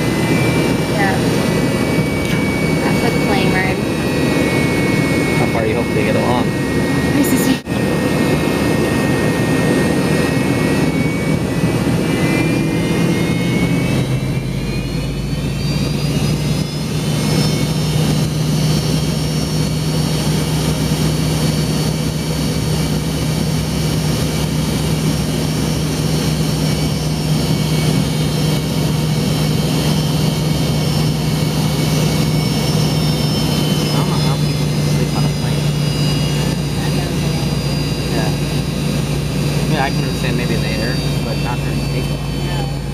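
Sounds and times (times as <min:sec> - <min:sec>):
jet engine whine: 0:00.0 - 0:42.9
low cabin hum: 0:00.0 - 0:42.9.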